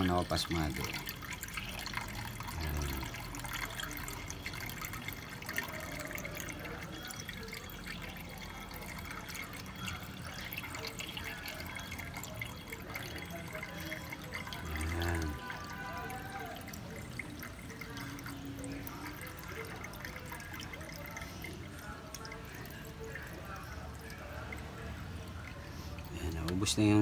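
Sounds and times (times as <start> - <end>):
liquid pouring and splashing: 0.0 - 27.0.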